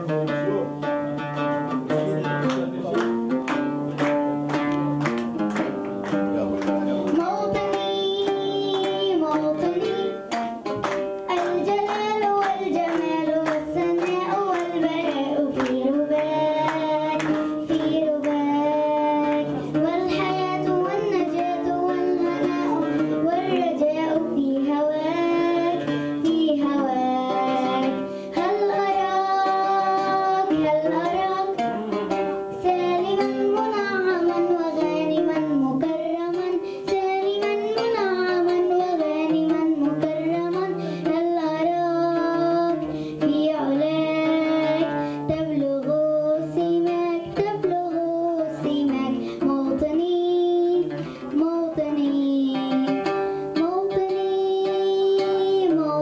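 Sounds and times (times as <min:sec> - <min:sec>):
instrumental backing music: 0:00.0 - 0:56.0
girl singing into microphone: 0:06.4 - 0:56.0.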